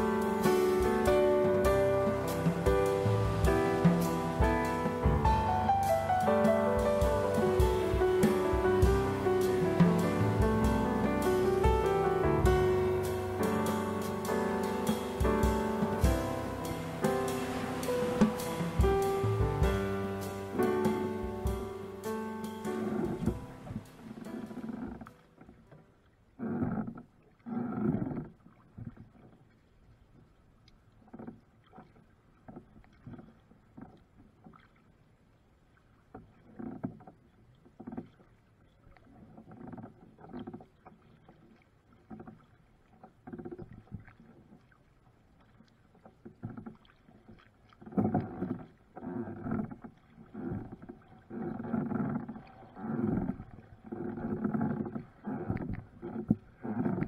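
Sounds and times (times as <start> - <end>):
kayak paddle splashing in water: 0.0 - 57.0.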